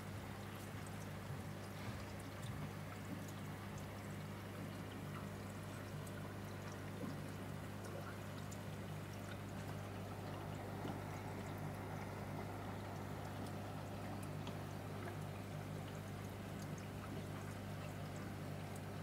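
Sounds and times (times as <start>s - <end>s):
water trickling and pouring: 0.4s - 19.0s.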